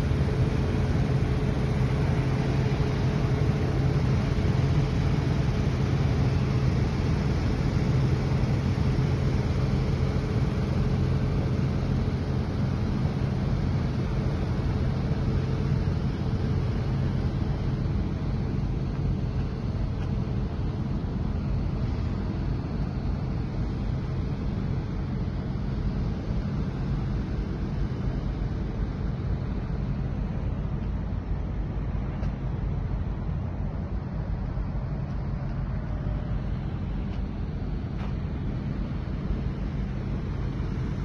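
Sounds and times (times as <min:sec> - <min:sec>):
diesel engine droning: 0:00.0 - 0:41.0.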